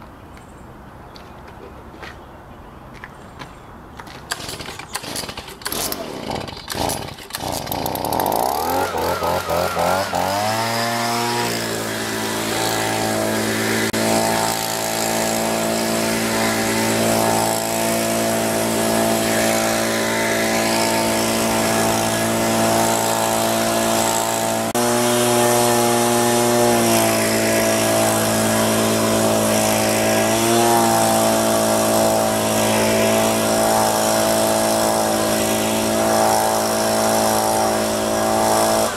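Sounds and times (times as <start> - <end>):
leaf blower engine running: 4.3 - 38.9.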